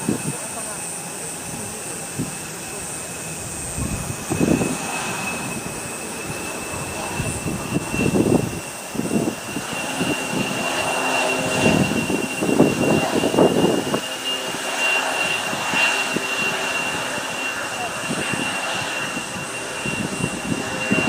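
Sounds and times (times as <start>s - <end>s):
jet engines whining: 0.0s - 21.0s
wind buffeting microphone: 3.3s - 21.0s.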